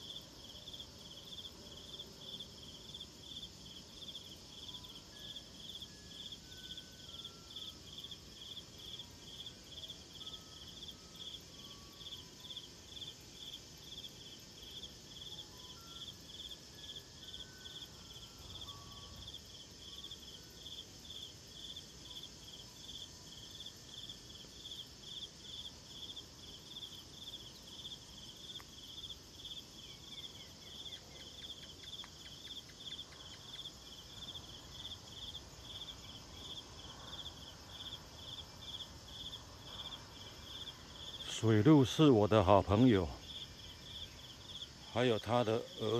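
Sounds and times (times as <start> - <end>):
high insect hum: 0.0 - 45.9
insects chirping: 0.0 - 45.9.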